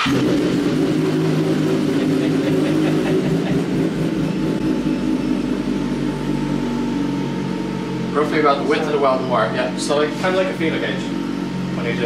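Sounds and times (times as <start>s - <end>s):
machine motor rumbling whirr: 0.3s - 12.0s.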